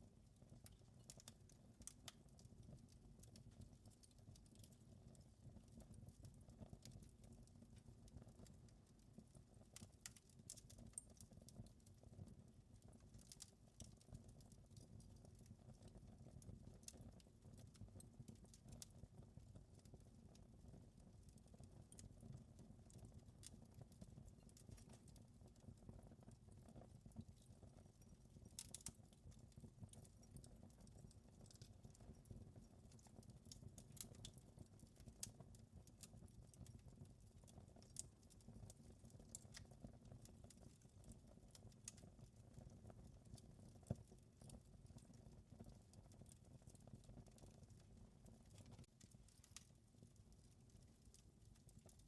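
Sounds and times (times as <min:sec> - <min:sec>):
wood fire crackling: 0:00.3 - 0:52.0.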